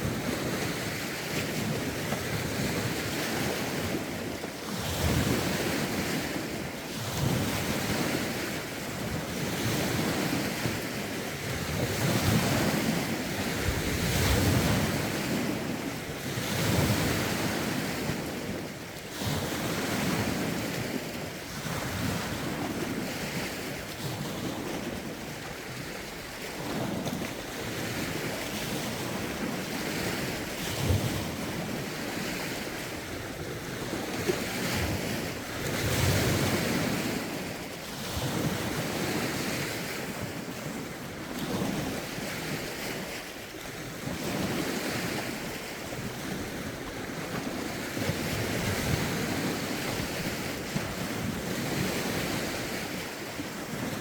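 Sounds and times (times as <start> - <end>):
lake waves washing in: 0.0 - 54.0
wind buffeting microphone: 0.0 - 54.0.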